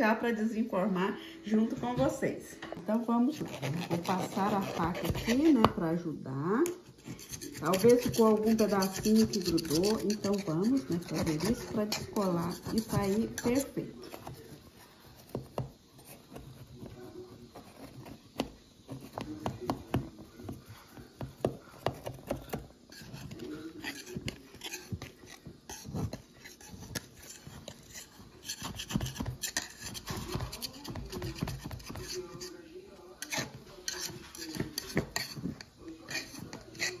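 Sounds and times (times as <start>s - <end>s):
knife scraping metal cake pan: 3.1s - 6.0s, 6.6s - 37.0s.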